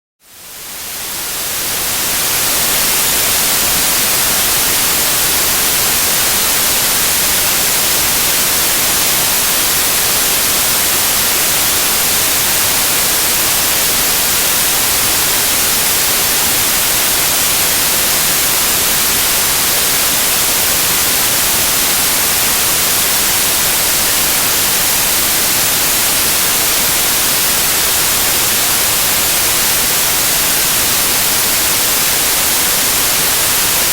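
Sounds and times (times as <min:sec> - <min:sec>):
white noise hiss: 0:00.2 - 0:33.9.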